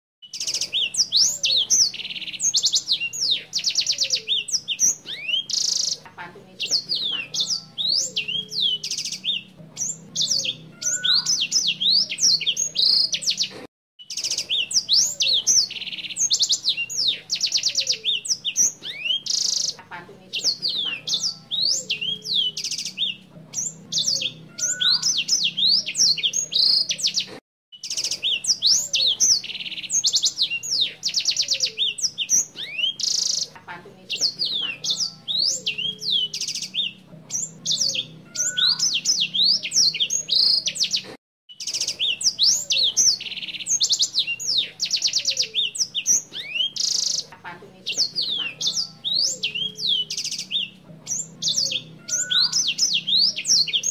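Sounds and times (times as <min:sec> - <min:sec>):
songbird singing fast trills: 0:00.2 - 0:47.3, 0:47.9 - 0:53.9.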